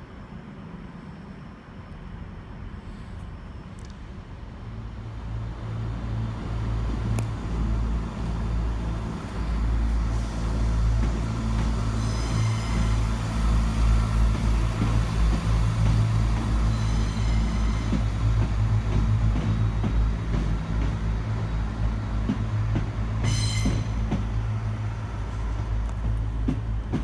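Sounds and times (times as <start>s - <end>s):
train diesel engines humming: 0.0s - 27.0s.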